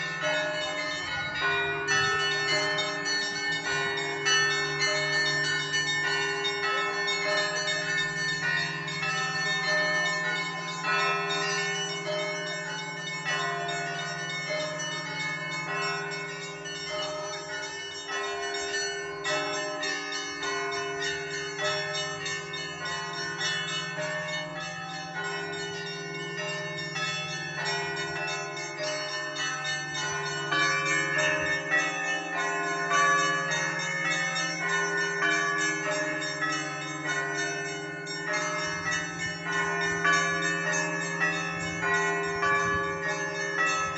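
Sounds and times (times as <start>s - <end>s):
deep ringing of large bells: 0.0s - 43.9s.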